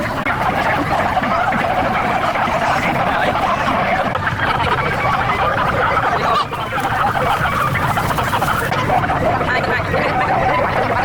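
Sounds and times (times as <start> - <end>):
babble of many voices: 0.0 - 11.0.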